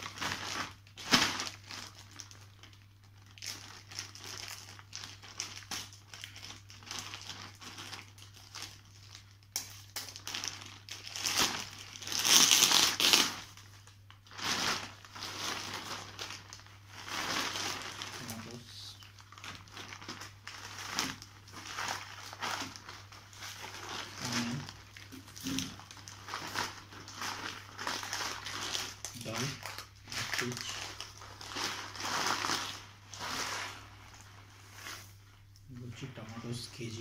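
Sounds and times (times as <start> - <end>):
plastic bags crinkling: 0.0 - 37.0.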